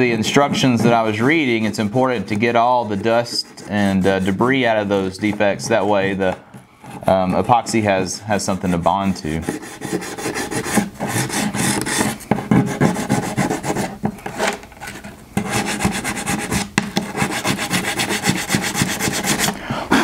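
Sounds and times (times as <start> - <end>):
sandpaper rubbing on wood: 0.0 - 6.3, 9.0 - 14.6, 15.4 - 19.6.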